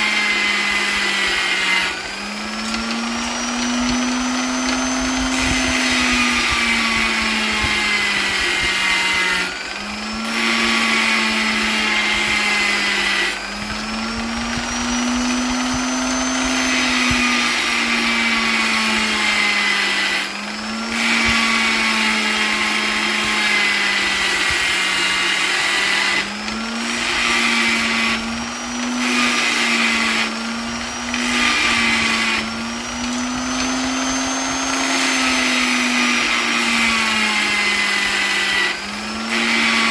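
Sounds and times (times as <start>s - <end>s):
electric polisher motor whining: 0.0s - 39.9s.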